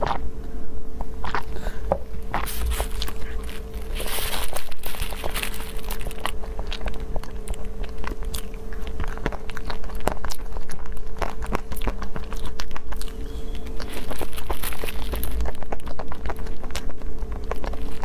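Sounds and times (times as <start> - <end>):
chewing nuts crunching: 1.0 - 18.0.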